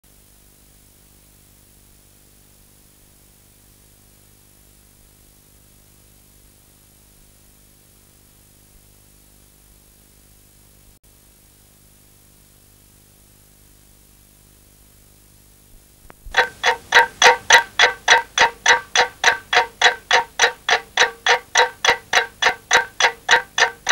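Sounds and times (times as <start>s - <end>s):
faint steady hiss: 4.8s - 23.9s.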